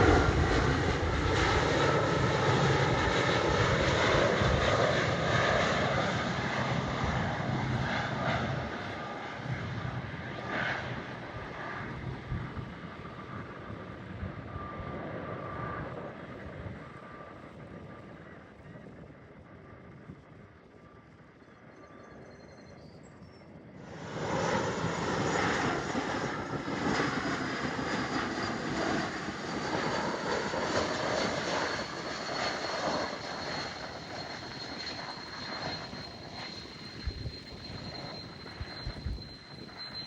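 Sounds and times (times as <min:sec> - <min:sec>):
jet engines passing: 0:00.0 - 0:18.0, 0:23.8 - 0:40.0
faint engine whine: 0:00.0 - 0:40.0.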